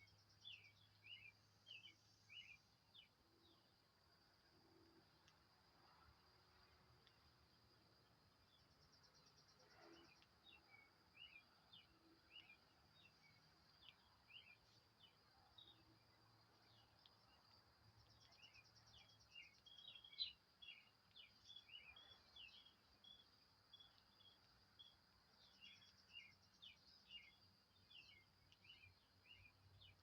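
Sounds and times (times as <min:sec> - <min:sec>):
songbird chirps: 0:00.0 - 0:30.0.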